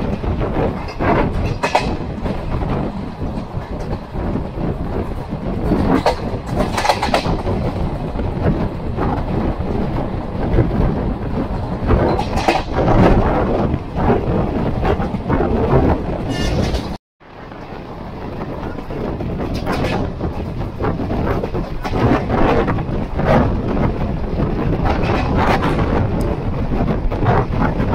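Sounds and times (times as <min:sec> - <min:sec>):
train wheels rumbling on rails: 0:00.0 - 0:27.9
wind rushing: 0:00.0 - 0:27.9.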